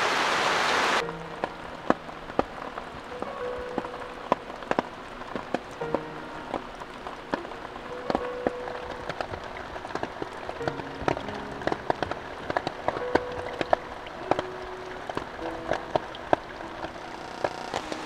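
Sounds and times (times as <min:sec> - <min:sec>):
heavy rain: 0:00.0 - 0:18.0
large raindrops tapping: 0:00.2 - 0:18.0
soft background music: 0:01.0 - 0:18.0.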